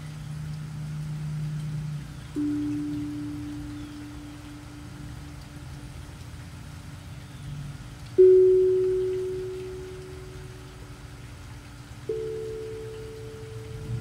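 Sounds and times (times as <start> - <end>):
steel tongue drum notes: 0.0 - 14.0.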